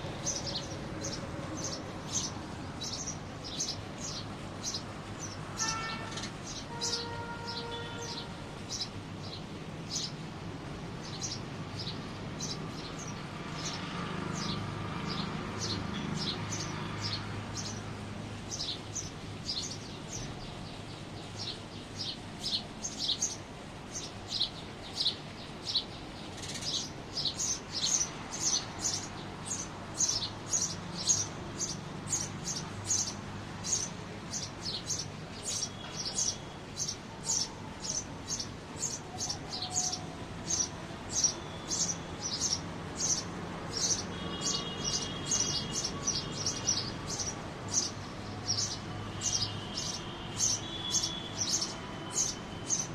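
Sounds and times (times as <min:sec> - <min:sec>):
small birds chirping: 0:00.0 - 0:10.2, 0:11.0 - 0:52.9.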